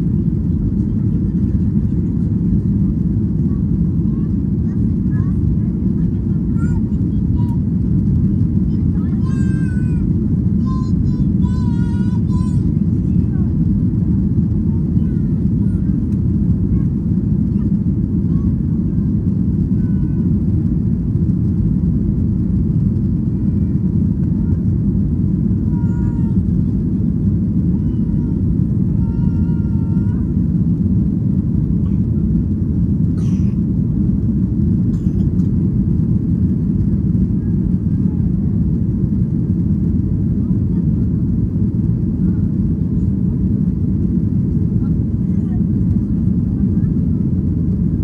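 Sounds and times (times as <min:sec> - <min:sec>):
jet engine roar in cabin: 0:00.0 - 0:48.0.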